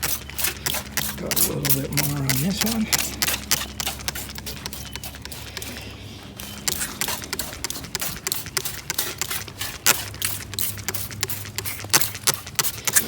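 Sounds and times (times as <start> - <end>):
spray bottle squirting: 0.0 - 13.0.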